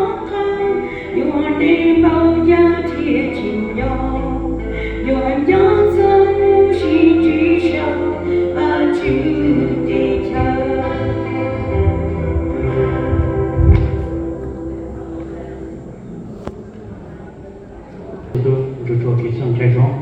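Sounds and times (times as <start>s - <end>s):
congregation singing a hymn: 0.0s - 16.2s
low bass accompaniment: 0.0s - 16.6s.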